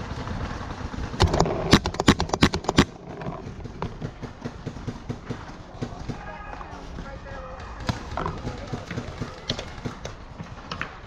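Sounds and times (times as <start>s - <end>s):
paintball markers firing: 1.1s - 11.0s.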